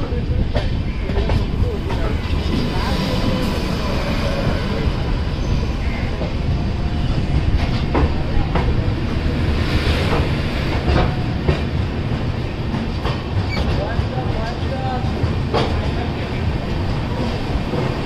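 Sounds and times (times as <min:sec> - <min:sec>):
train wheels rumbling on track: 0:00.0 - 0:18.0
wheels clacking over rail joints: 0:00.4 - 0:18.0.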